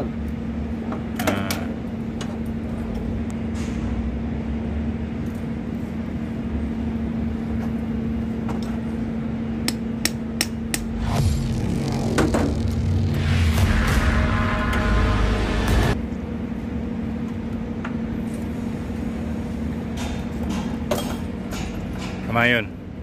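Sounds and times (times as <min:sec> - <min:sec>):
low rumble of machinery: 0:00.0 - 0:23.0
steady mechanical hum: 0:00.0 - 0:23.0.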